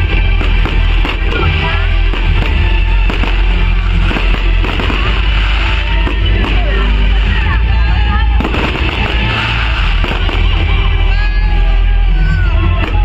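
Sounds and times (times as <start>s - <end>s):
fireworks exploding: 0.0s - 13.0s
loud music with heavy bass beat: 0.0s - 13.0s.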